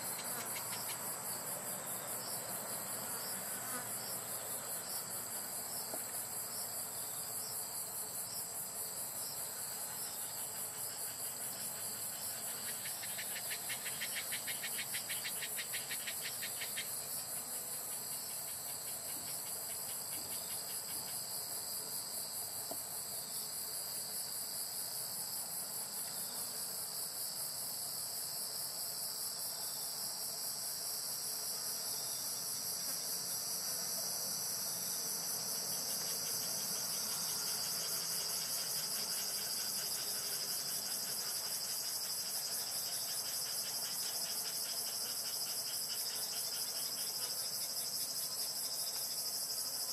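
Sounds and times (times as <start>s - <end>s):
crickets trilling: 0.0s - 49.9s.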